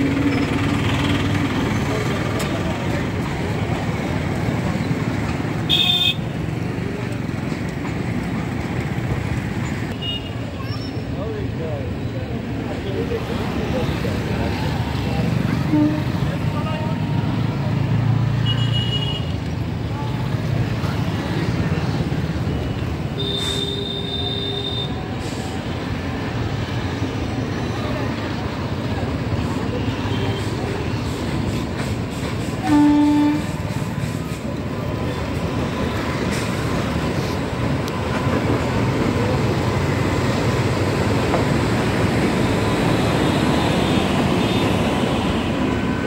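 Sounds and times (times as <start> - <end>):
train coaches rumbling past: 0.0 - 18.5, 19.2 - 46.0
road traffic noise: 0.0 - 46.0.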